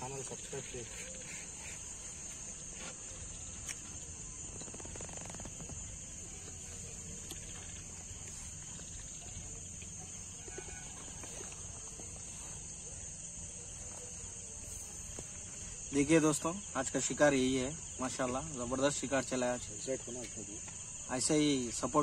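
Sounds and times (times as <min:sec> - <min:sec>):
crickets chirring: 0:00.0 - 0:22.0.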